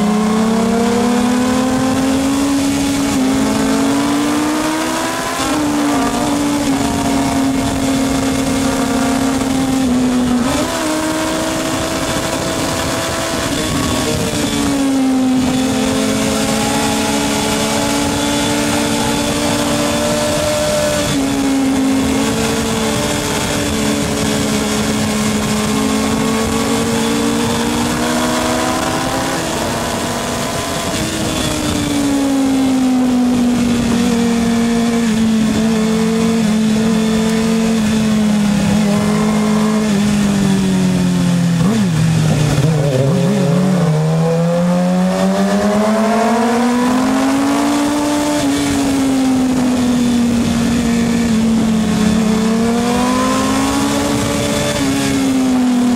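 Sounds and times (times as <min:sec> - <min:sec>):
racing motorcycle engines: 0:00.0 - 0:55.9.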